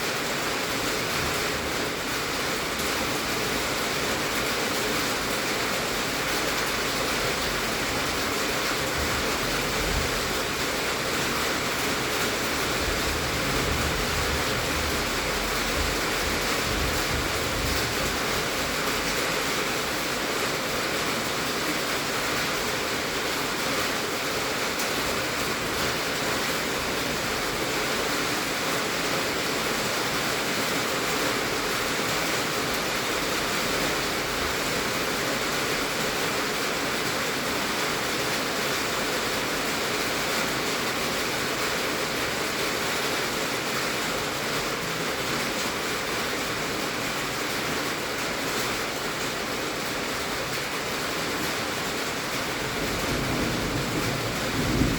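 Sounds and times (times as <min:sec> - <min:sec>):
heavy rain on a tin roof: 0:00.0 - 0:54.9.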